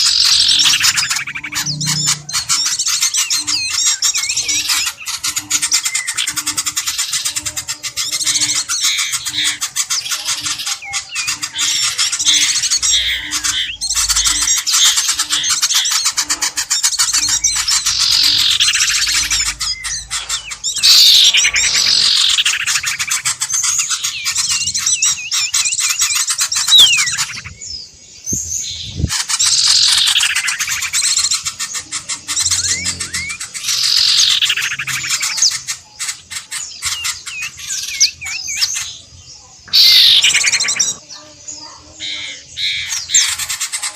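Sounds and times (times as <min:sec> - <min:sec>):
downward sweeping bird calls: 0:00.0 - 0:43.9
small birds chirping and squawking: 0:00.0 - 0:43.9.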